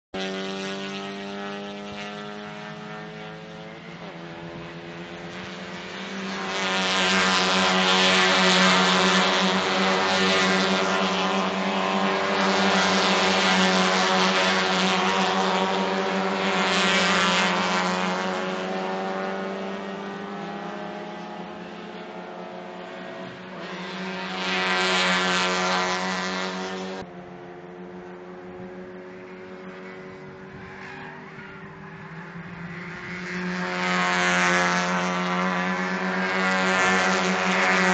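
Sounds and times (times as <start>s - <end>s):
race car engines droning: 0.2s - 37.9s.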